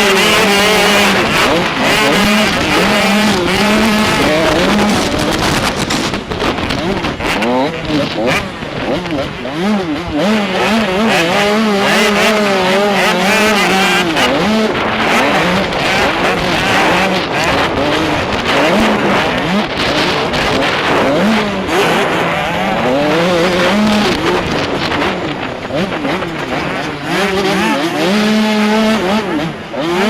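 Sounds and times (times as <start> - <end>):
motocross bike engine revving: 0.0 - 30.0
wind rushing on microphone: 0.0 - 30.0.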